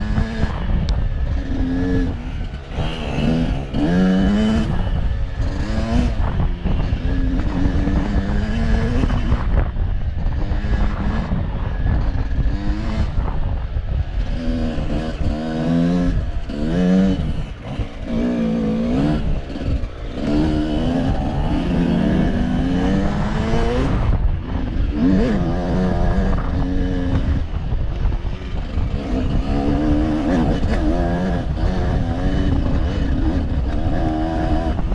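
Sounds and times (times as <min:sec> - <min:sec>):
off-road vehicle engine revving: 0:00.0 - 0:13.5, 0:14.2 - 0:34.9.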